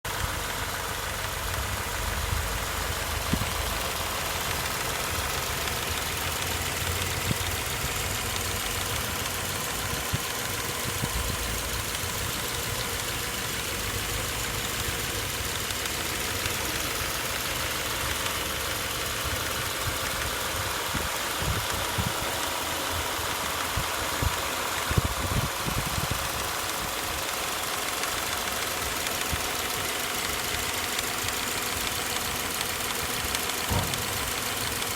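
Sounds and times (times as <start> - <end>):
engine running with ticking knock: 0.0 - 34.9
louder engine clicks: 0.1 - 34.9.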